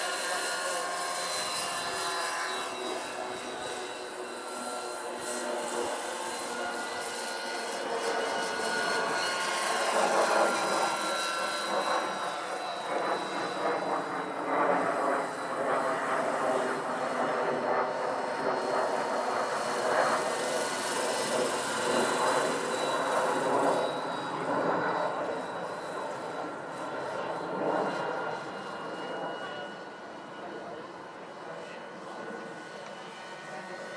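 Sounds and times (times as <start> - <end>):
helicopter rotor noise: 0.0 - 33.9
model helicopter electric whine: 0.0 - 33.9.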